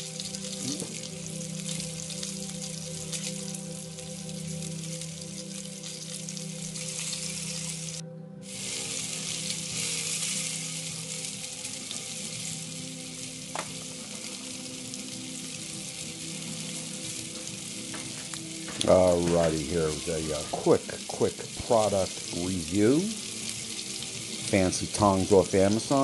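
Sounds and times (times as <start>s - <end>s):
fish sizzling in a skillet: 0.0s - 26.0s.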